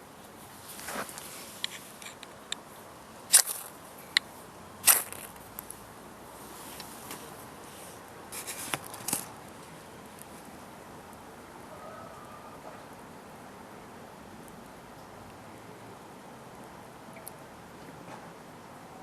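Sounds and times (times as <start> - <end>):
low hiss: 0.0 - 19.0.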